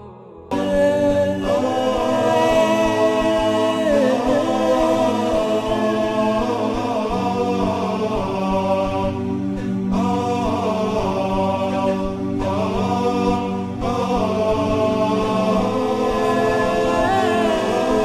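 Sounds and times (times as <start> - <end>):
layered voices singing a cappella: 0.0 - 18.0.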